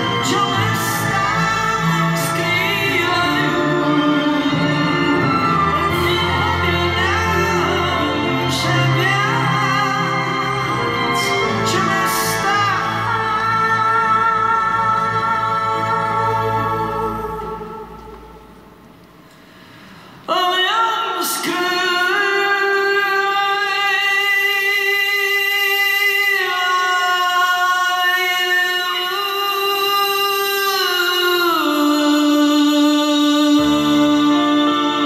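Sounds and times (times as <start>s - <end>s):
symphony orchestra: 0.0s - 35.0s.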